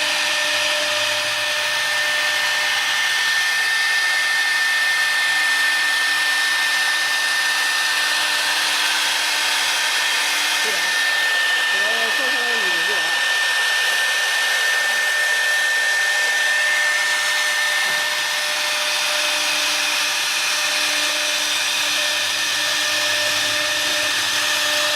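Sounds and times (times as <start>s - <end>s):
router spindle whine: 0.0s - 24.9s.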